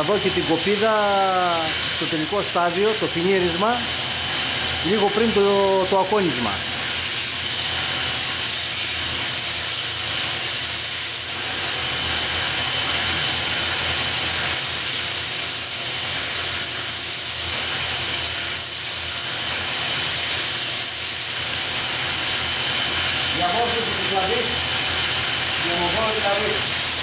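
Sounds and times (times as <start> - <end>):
belt grinder grinding steel blade: 0.0 - 27.0.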